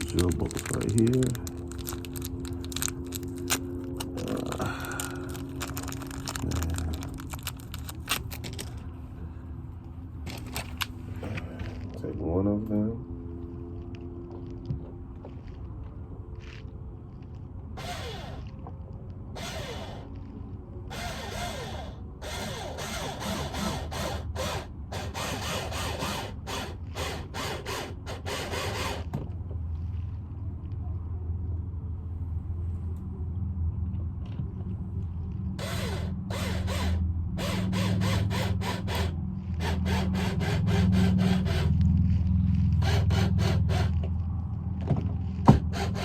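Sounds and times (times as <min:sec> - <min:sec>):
low hum: 0:00.0 - 0:25.8, 0:29.3 - 0:46.0.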